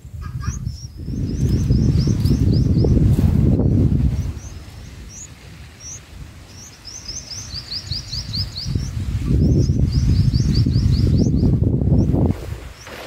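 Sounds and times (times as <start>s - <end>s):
nestlings chirping: 0.2s - 12.2s.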